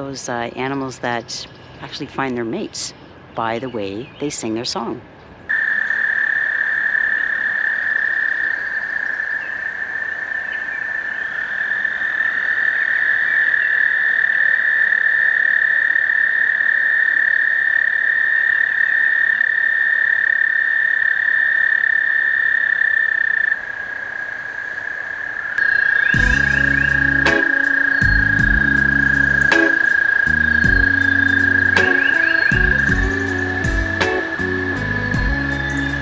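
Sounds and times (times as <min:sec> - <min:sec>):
toad trilling: 0:05.5 - 0:36.0.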